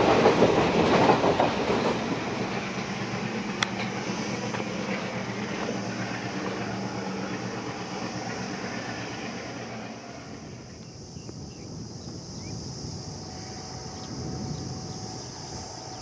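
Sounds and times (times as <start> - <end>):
train wheels rumbling and rattling: 0.0 - 16.0
steady hiss: 1.5 - 16.0.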